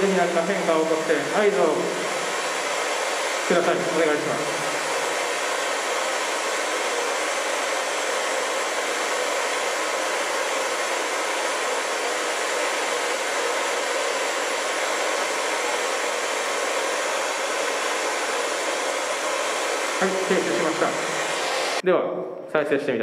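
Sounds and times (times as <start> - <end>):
radio static hiss: 0.0 - 10.1, 10.7 - 21.9.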